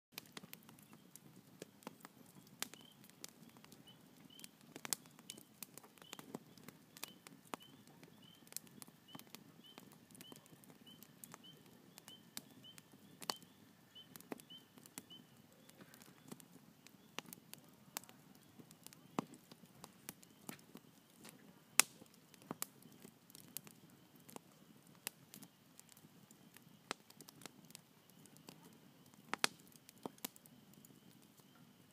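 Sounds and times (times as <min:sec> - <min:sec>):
campfire crackling and popping: 0:00.1 - 0:31.9
faint low hiss: 0:00.2 - 0:31.9.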